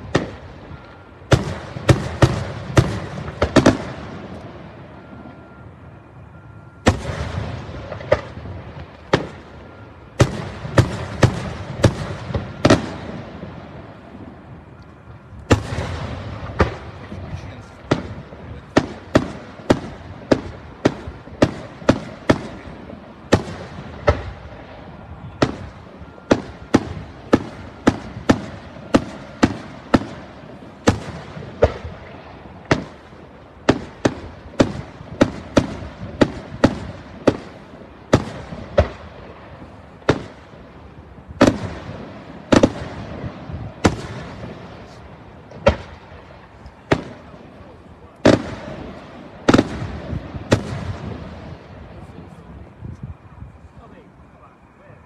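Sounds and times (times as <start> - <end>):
steady noisy background: 0.0 - 55.0.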